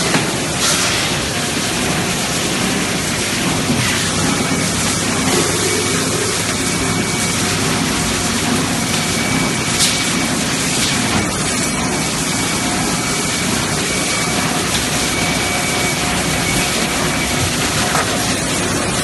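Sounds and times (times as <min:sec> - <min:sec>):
machine running steadily: 0:00.0 - 0:19.0.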